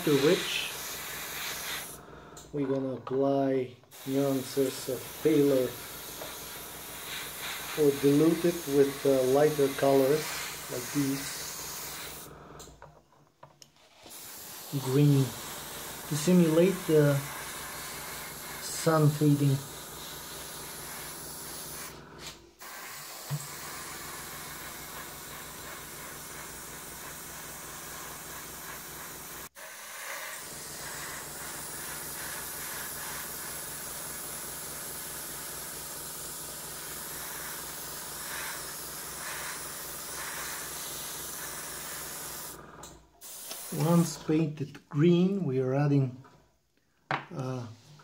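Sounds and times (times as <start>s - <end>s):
airbrush hissing: 0.0s - 2.5s, 3.9s - 12.7s, 13.8s - 44.3s.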